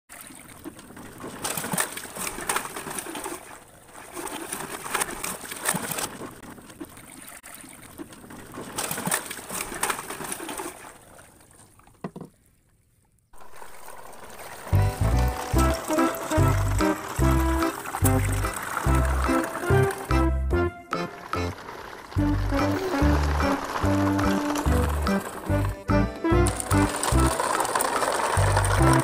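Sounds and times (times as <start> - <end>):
toy trucks tumbling into water: 0.1 - 12.5, 13.4 - 29.0
water splashing and sloshing: 0.1 - 29.0.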